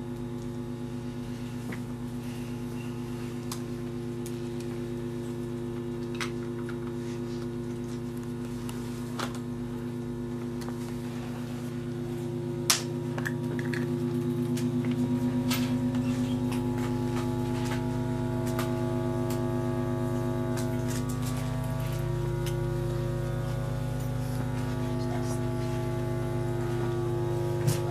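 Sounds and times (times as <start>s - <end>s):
bowed tabletop drone: 0.0s - 27.9s.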